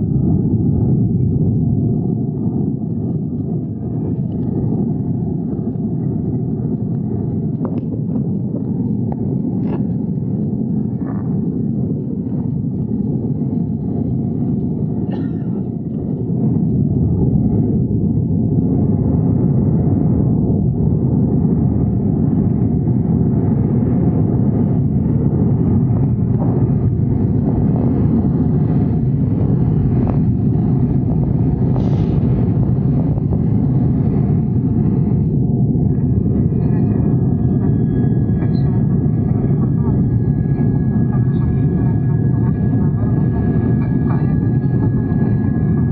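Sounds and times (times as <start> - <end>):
jet engine and airflow rumble: 0.0 - 45.9.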